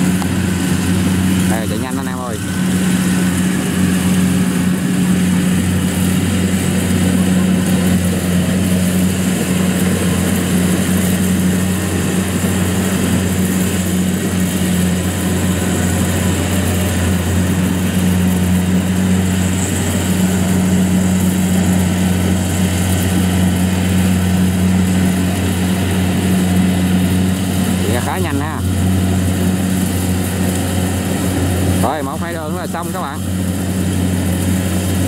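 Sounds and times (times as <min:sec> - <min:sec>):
combine harvester diesel engine: 0:00.0 - 0:35.0.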